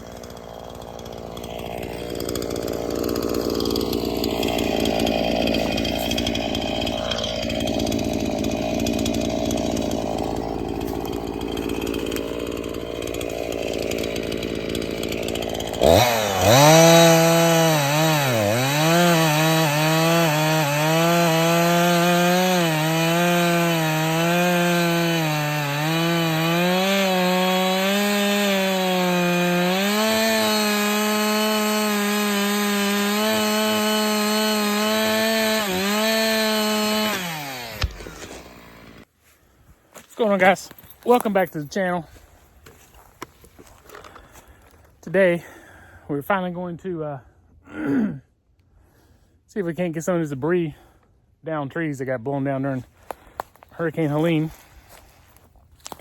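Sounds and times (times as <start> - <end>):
chainsaw cutting logs: 0.0 - 46.8, 51.8 - 56.0.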